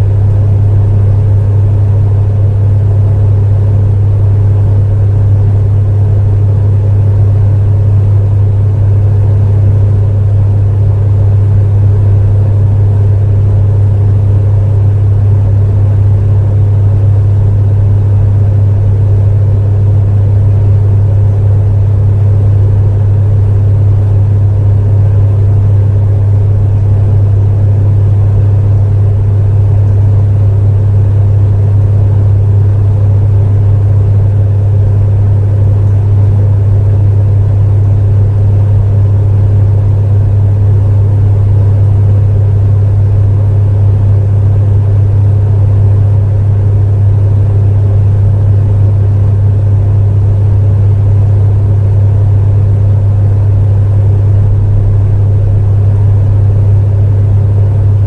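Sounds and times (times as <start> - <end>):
electric space heater humming: 0.0 - 58.0.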